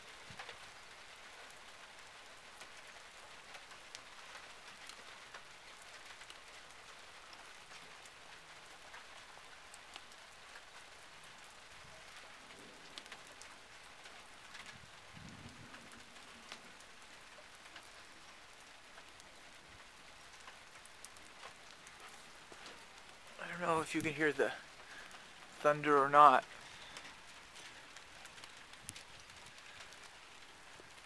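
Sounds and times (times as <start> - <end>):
light rain on dry grass: 0.0 - 31.0.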